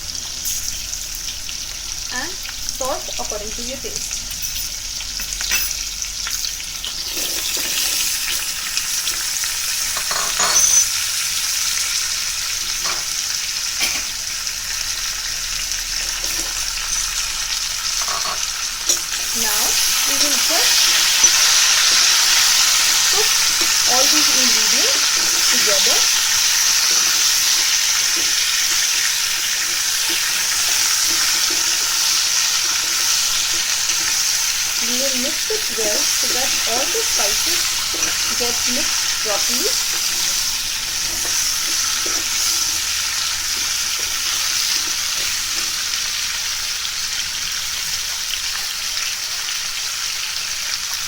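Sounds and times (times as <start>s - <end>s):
potatoes sizzling in hot oil: 0.0s - 51.0s.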